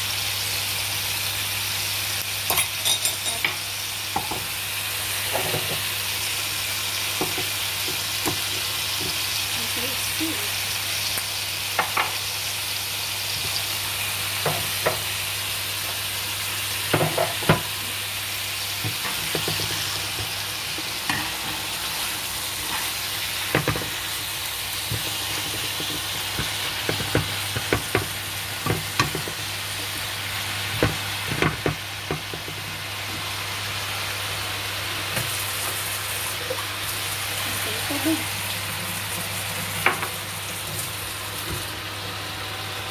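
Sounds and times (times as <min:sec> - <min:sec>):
food sizzling in a wok: 0:00.0 - 0:42.9.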